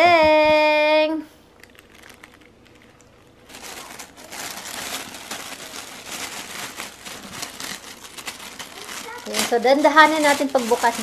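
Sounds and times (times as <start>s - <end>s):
tissue paper crinkling: 1.6s - 11.0s.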